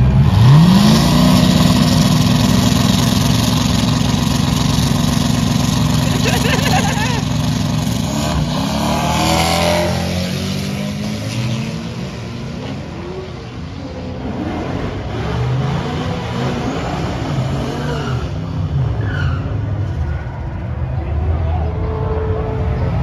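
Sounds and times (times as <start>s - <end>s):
engines at full throttle: 0.0s - 23.0s.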